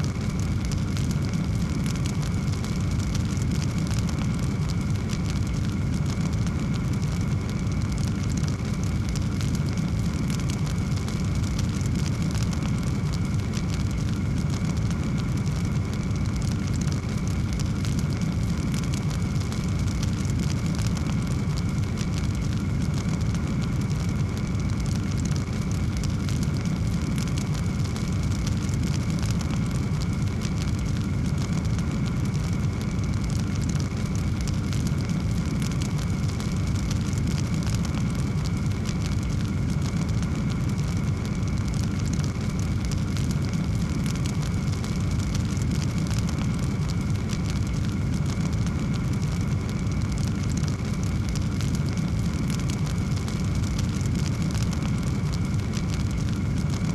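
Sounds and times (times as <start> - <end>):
fireplace fire crackling: 0.0 - 56.9.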